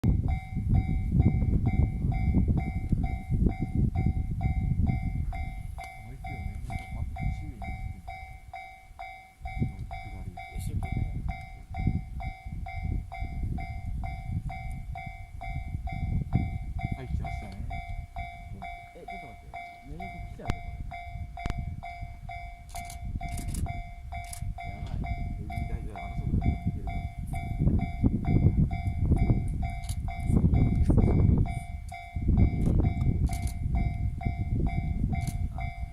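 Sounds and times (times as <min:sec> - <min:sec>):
level crossing alarm ringing: 0:00.1 - 0:35.9
train rumble: 0:00.1 - 0:35.9.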